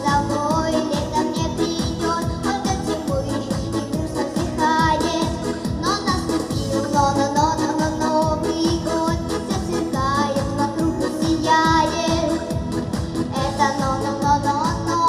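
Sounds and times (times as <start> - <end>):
backing music with steady beat: 0.0 - 15.0.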